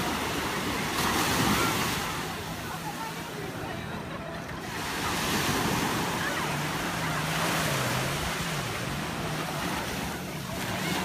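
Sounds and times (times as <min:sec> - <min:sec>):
small waves washing on beach: 0:00.0 - 0:11.0.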